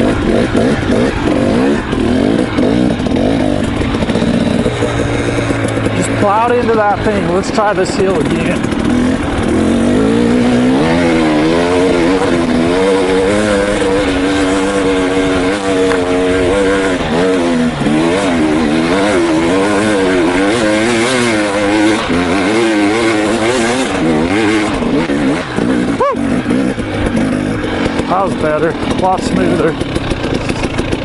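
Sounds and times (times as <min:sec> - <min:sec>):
dirt bike engine revving hard: 0:00.0 - 0:31.0.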